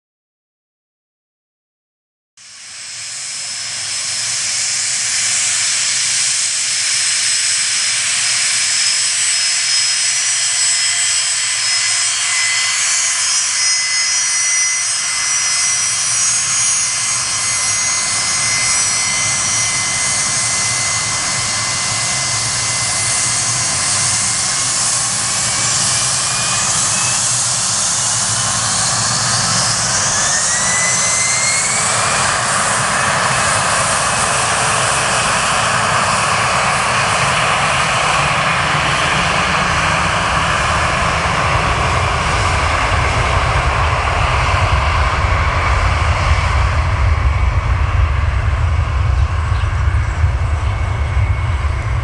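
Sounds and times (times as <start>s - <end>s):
jet engines whining: 2.4s - 52.0s
jet noise rushing: 2.5s - 52.0s.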